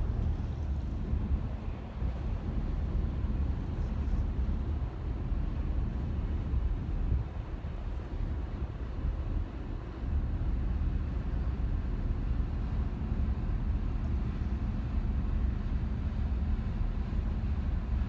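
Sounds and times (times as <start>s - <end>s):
faint constant hum: 0.0s - 18.0s
low harbour rumble: 0.0s - 18.0s.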